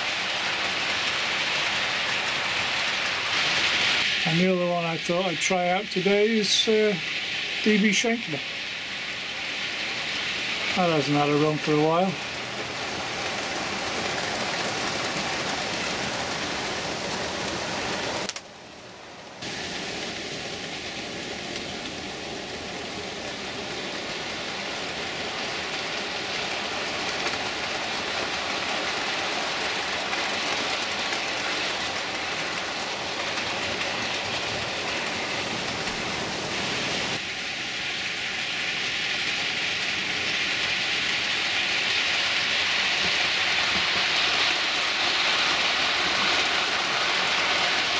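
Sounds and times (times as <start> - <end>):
model trains whirring on track: 0.0 - 47.9.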